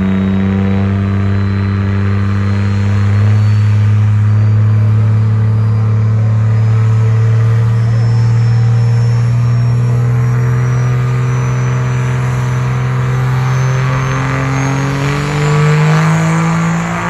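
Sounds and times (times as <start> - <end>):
diesel truck engine revving high: 0.0 - 17.0
faint high whistle: 0.1 - 17.0.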